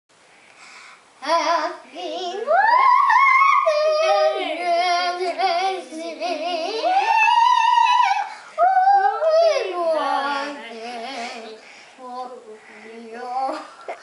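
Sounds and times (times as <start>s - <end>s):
girls singing: 1.2s - 14.0s.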